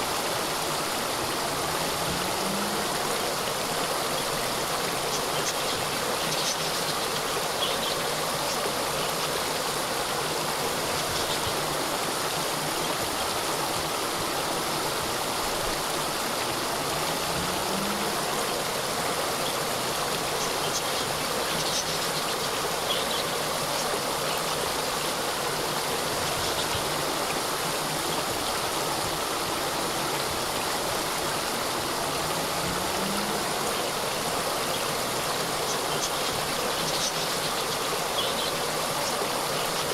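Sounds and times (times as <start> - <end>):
water cascade rushing: 0.0 - 39.9.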